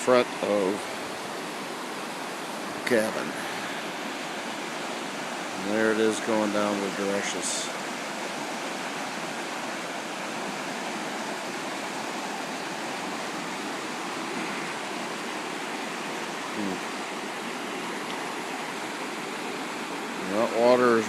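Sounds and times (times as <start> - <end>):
fast water rushing: 0.0 - 21.0.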